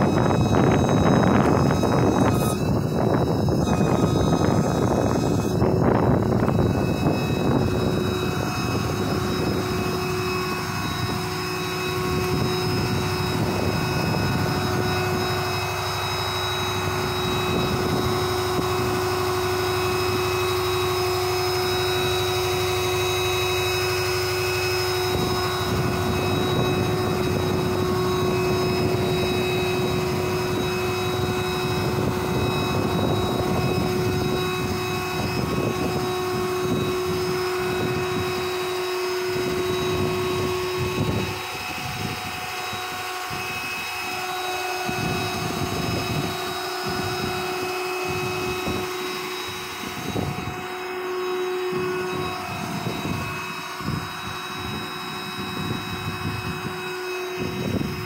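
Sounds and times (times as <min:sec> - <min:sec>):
steady whine: 0:00.0 - 0:58.0
truck engine drone: 0:00.0 - 0:58.0.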